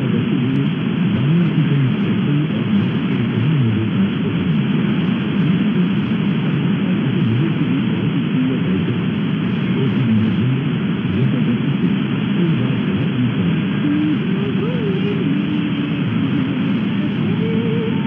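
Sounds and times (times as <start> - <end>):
faint radio programme audio: 0.0 - 18.0
radio static: 0.0 - 18.0.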